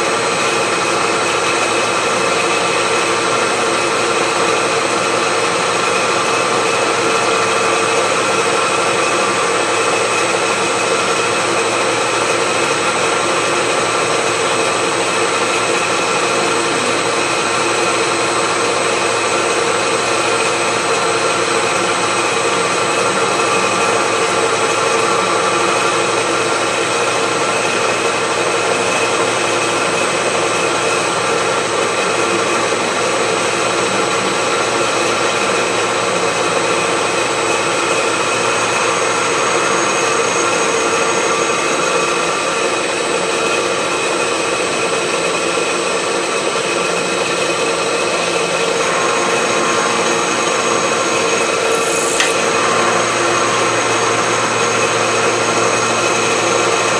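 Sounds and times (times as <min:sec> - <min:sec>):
milling machine cutting steel: 0:00.0 - 0:56.9.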